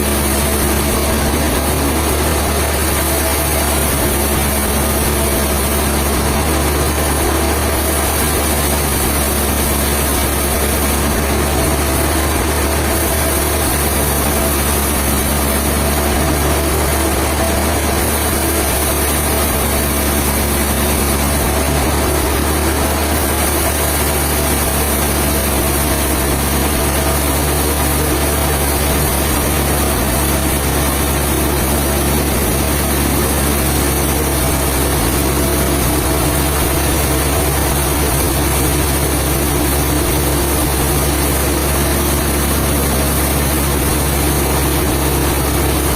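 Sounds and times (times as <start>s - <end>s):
sawmill machinery humming and hissing: 0.0s - 45.9s.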